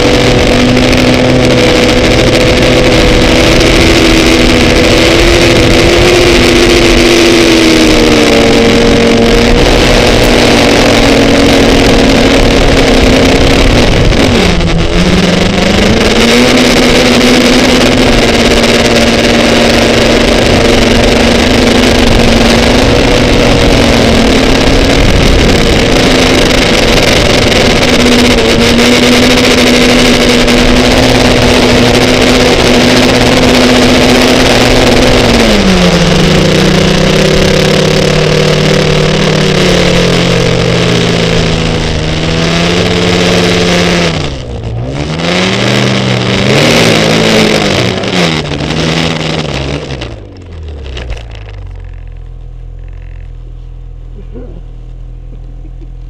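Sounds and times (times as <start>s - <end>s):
rushing noise: 0.0s - 53.3s
snowmobile engine running: 0.0s - 56.0s.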